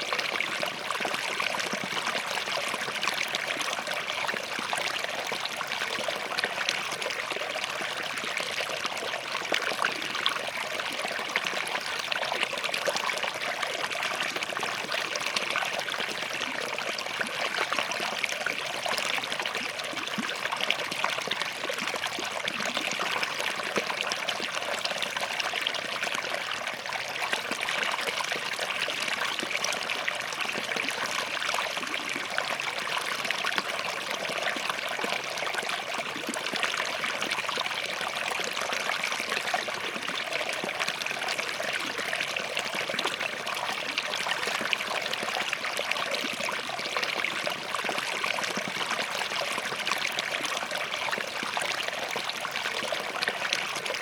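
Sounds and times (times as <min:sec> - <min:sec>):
stream trickling over rocks: 0:00.0 - 0:54.0.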